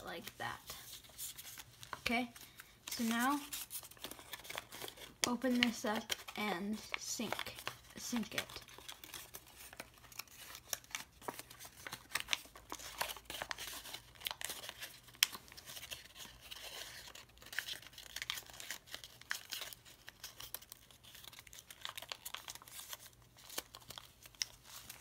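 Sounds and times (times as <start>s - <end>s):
paper crinkling and crackling: 0.0s - 25.0s.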